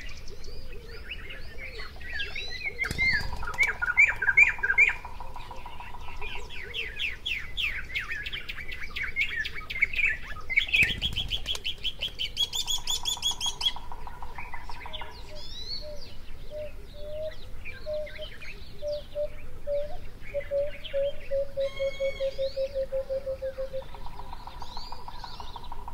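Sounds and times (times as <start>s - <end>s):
birds singing and chirping: 0.0s - 25.9s.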